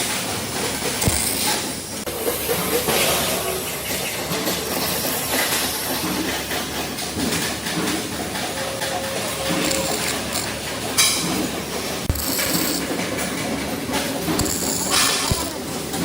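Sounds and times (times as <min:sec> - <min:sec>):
hissing workshop machinery: 0:00.0 - 0:16.0.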